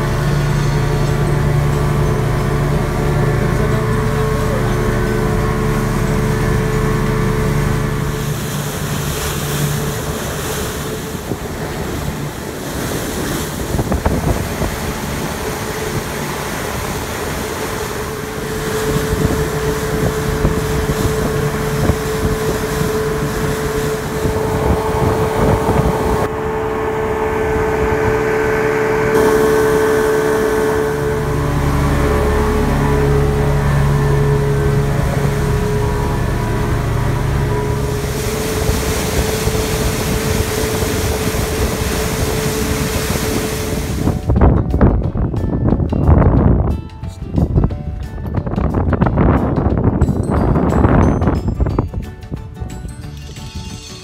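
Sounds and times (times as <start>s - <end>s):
boat engine running: 0.0s - 54.0s
water rushing along hull: 0.0s - 54.0s
wind on microphone: 0.0s - 54.0s.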